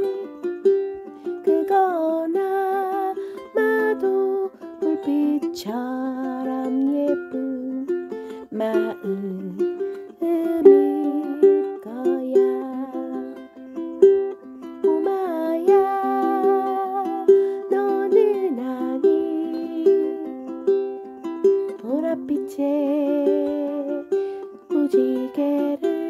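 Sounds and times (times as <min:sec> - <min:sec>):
gentle plucked tune: 0:00.0 - 0:26.0.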